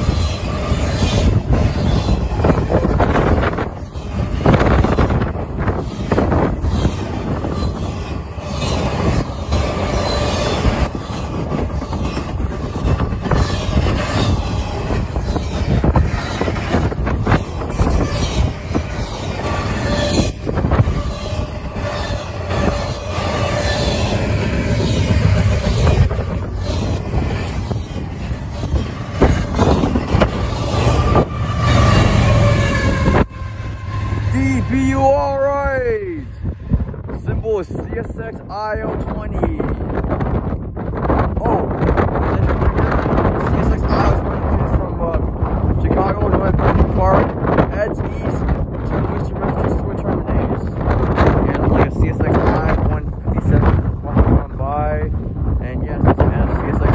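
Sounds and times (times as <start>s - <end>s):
freight train wheels rumbling: 0.0s - 56.9s.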